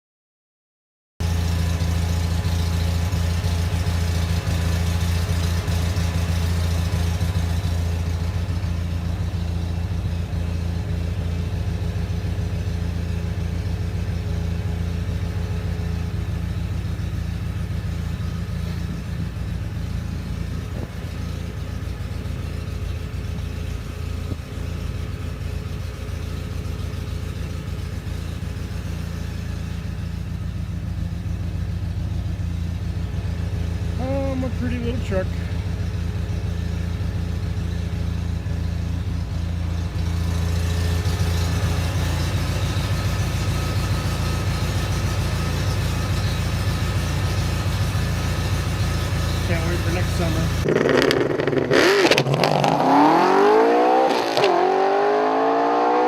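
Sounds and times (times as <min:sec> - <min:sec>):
garden tractor engine running: 0:01.2 - 0:50.7.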